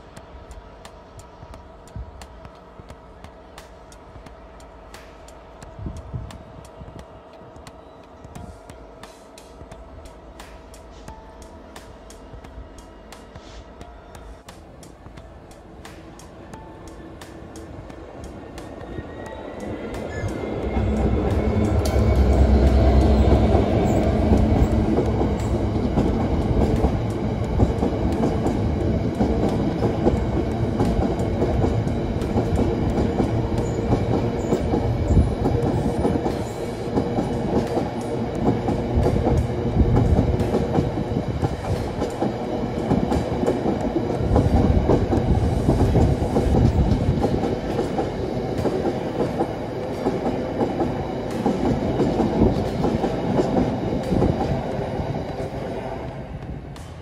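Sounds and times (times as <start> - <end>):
diesel locomotive engine passing: 0.0 - 57.0.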